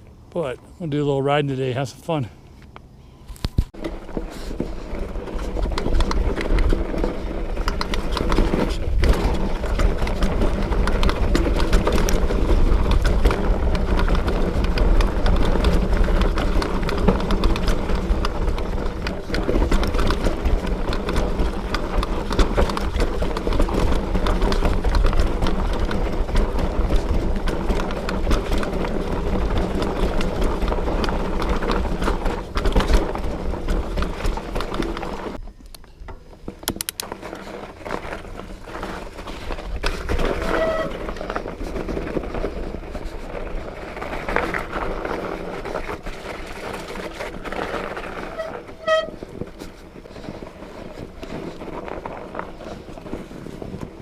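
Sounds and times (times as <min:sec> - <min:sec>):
bike tyres rattling and clicking: 0:03.3 - 0:54.0.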